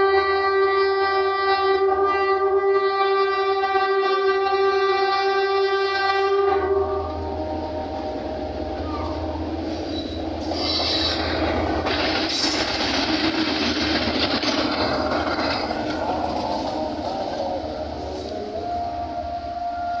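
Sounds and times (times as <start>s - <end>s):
locomotive air horn: 0.0s - 12.6s, 15.8s - 20.0s
locomotive engine rumble: 0.0s - 20.0s
wheel noise on rails: 0.0s - 20.0s.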